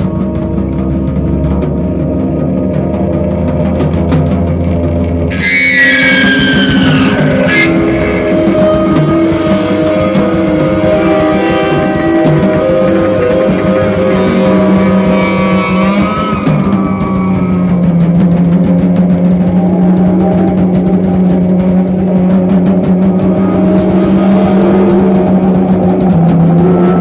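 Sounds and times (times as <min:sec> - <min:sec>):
jazz-rock band playing: 0:00.0 - 0:27.0.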